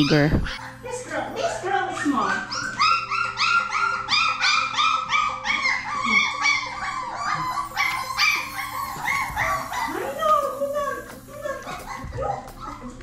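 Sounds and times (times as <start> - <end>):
puppies whining and yipping: 0.0 - 13.0.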